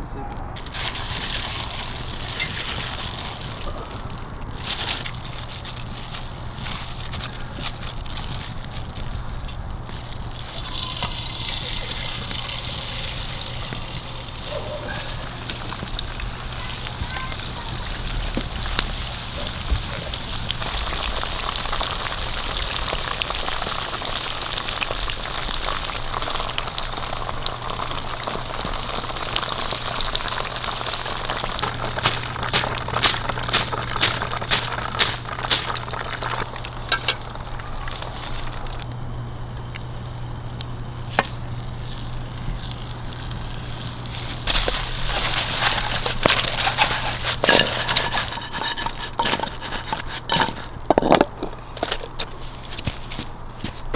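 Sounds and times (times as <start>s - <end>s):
fire crackling and popping: 0.3s - 53.9s
food sizzling over campfire: 0.6s - 53.9s.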